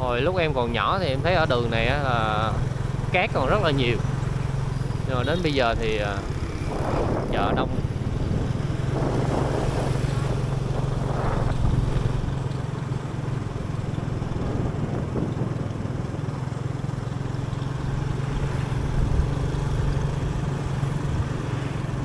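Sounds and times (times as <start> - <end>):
road and wind noise: 0.0 - 22.0
vehicle engine hum: 0.0 - 22.0.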